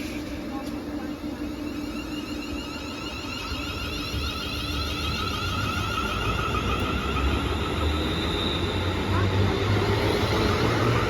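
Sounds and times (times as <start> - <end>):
rumble of train wheels: 0.0 - 11.0
train electric whine: 0.0 - 11.0.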